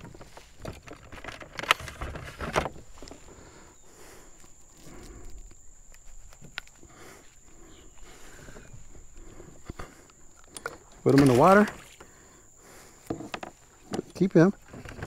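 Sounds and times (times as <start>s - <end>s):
handling noise on plastic kayak: 0.0s - 15.0s.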